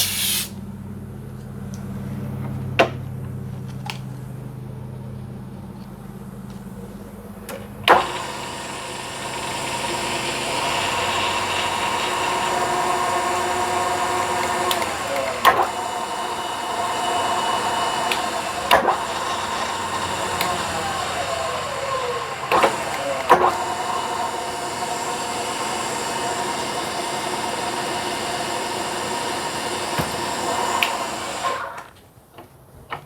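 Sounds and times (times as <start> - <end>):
milling machine spindle running: 4.3 - 31.9.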